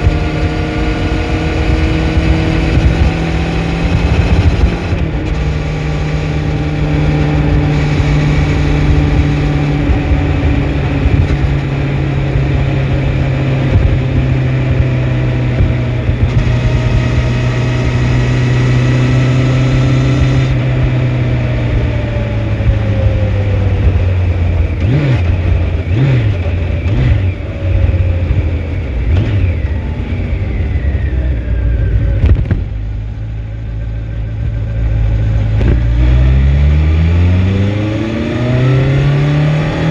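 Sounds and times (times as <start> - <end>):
motorcycle engine revving: 0.0 - 39.9
motorcycle engine running: 0.0 - 39.9.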